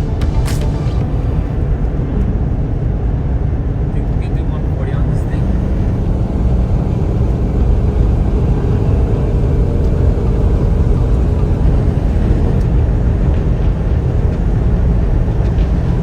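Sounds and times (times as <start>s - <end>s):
vehicle road and engine noise: 0.0s - 16.0s.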